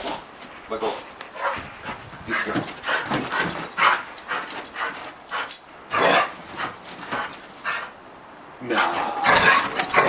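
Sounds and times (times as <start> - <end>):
dog panting and whimpering: 0.4 - 8.0, 9.2 - 10.0.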